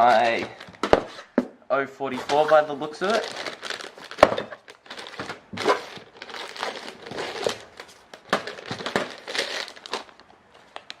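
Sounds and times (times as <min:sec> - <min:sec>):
plastic packaging crinkling: 0:02.1 - 0:11.0.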